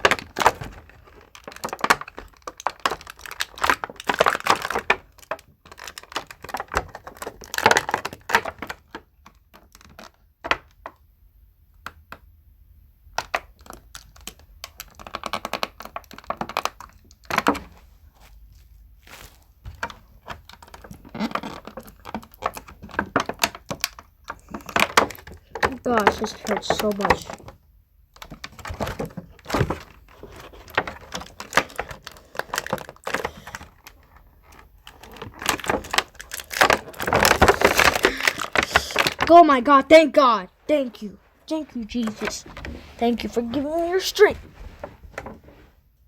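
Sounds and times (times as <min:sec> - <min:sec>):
plastic packaging crinkling: 0:00.0 - 0:10.1, 0:13.6 - 0:45.4.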